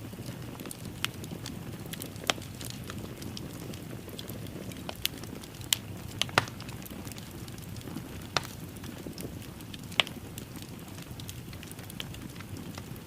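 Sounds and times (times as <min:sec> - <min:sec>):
wood fire burning: 0:00.0 - 0:13.0.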